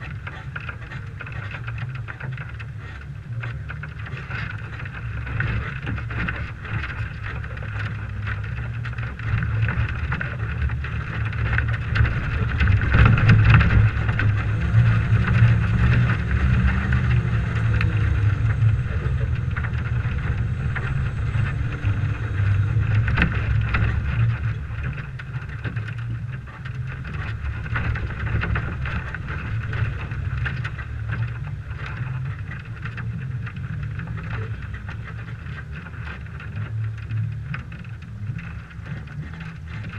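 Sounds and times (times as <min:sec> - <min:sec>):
knocks and rattles from bumps: 0:00.0 - 0:39.9
truck engine under load: 0:00.0 - 0:39.9
wind on microphone: 0:00.0 - 0:39.9.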